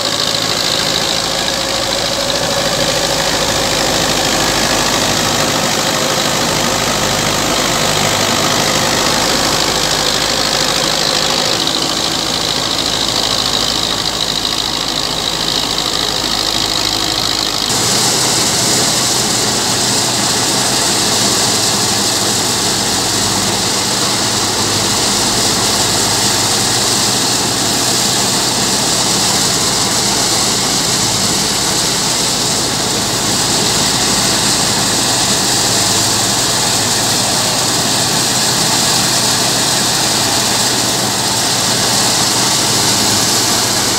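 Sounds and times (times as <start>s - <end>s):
thresher rushing noise: 0.0s - 43.9s
tractor diesel engine running: 0.0s - 43.9s.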